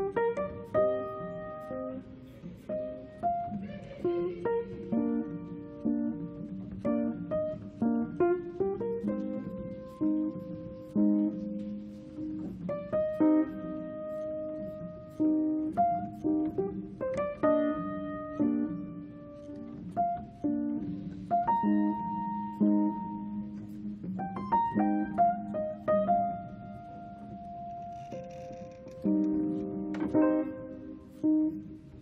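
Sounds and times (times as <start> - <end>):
gentle piano melody: 0.0 - 32.0.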